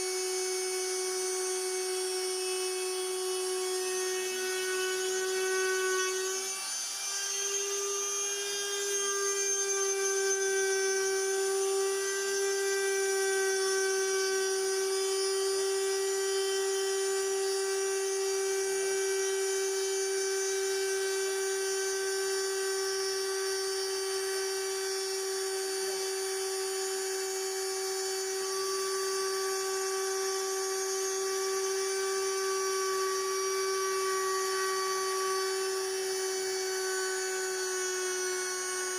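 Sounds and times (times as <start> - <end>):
router spindle motor whine: 0.0 - 38.9.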